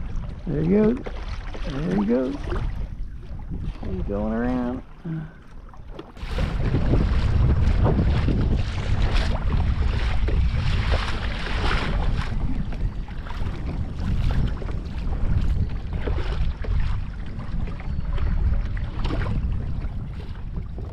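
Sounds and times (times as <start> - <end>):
water splashing along kayak hull: 0.0 - 20.9
wind buffeting microphone: 0.0 - 20.9.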